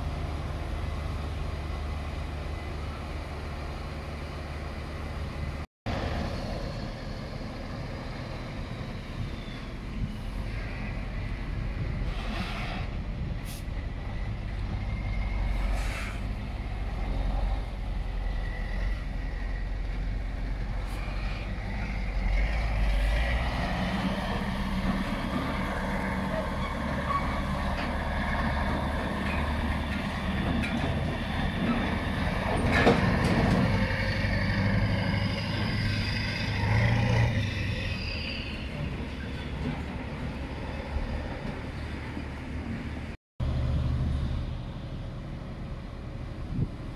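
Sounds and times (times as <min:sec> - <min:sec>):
heavy truck engine driving past: 0:00.0 - 0:46.9.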